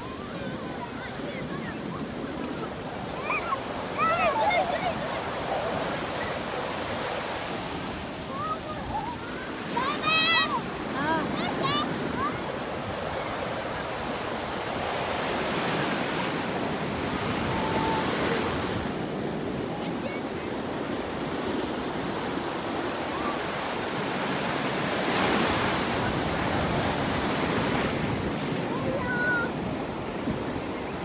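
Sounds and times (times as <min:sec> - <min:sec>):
waves washing onto beach: 0:00.0 - 0:31.0.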